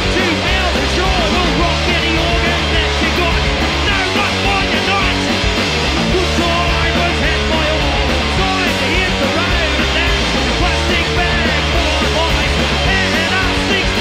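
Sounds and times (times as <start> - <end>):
punk rock band playing: 0.0 - 14.0.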